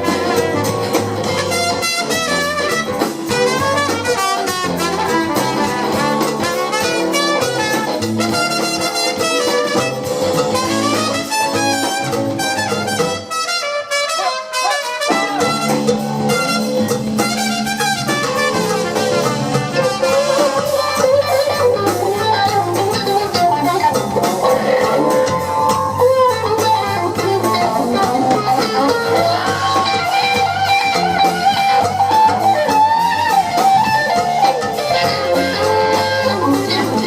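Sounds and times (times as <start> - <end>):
bass and drums: 0.0 - 37.0
lead guitar: 0.0 - 37.0.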